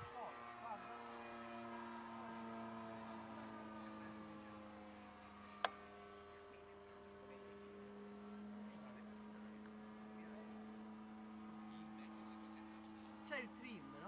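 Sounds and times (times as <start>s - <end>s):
model plane engine drone: 0.0s - 14.0s.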